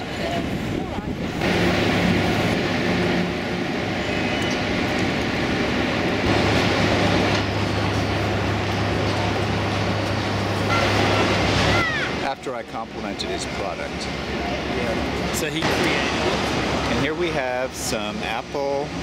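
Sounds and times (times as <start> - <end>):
dense city traffic: 0.0 - 19.0
low engine hum: 0.0 - 19.0.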